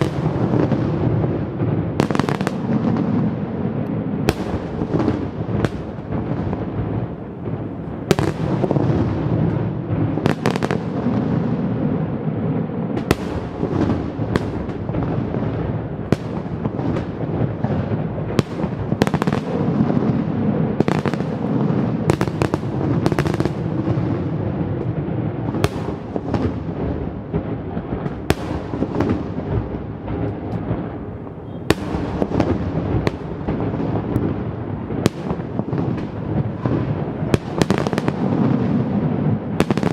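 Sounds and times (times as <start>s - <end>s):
firework cracks and bangs: 0.0s - 39.9s
low rumble of explosions: 0.0s - 39.9s.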